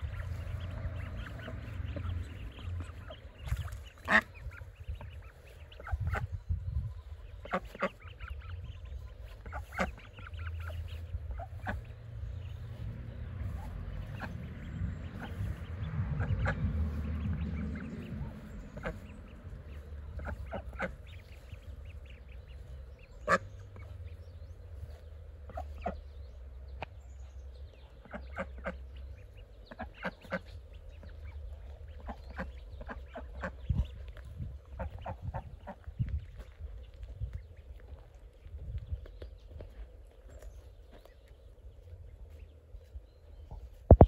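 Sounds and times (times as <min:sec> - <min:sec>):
ducklings peeping: 0:00.0 - 0:44.0
ducks quacking: 0:00.0 - 0:44.0.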